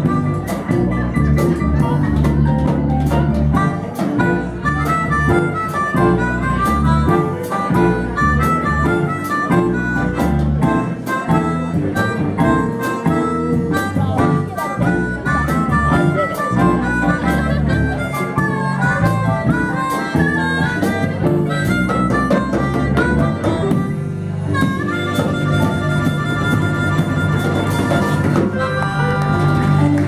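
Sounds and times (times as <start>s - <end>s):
blues band playing: 0.0s - 30.0s
harmonica lead: 0.0s - 30.0s.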